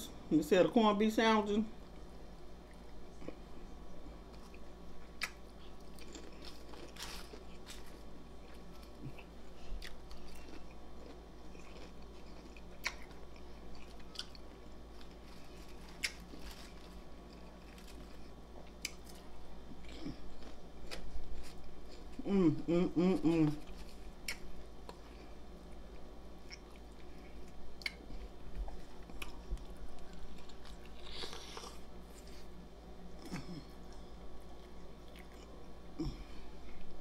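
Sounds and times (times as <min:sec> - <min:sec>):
person chewing crunchy chips: 0:04.3 - 0:32.6, 0:33.2 - 0:36.9.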